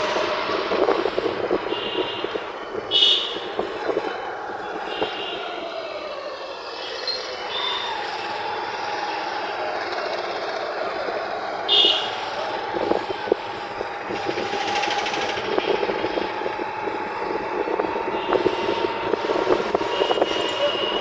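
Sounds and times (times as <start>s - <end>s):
vehicles running past: 0.0s - 21.0s.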